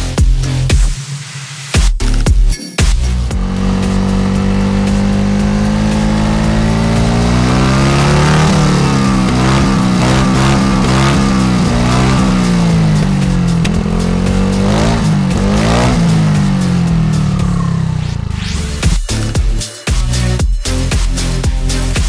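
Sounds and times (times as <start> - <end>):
scooter engine idling and revving: 1.8 - 22.0.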